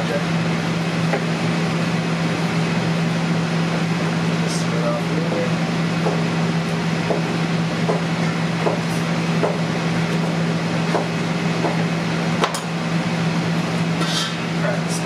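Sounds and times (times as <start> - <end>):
kitchen ventilation hum: 0.0 - 15.0.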